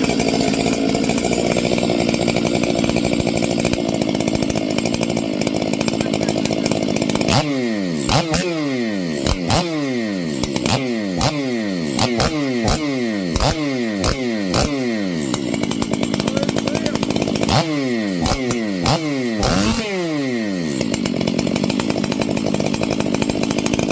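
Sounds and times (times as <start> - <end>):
chainsaw revving: 0.0 - 23.9.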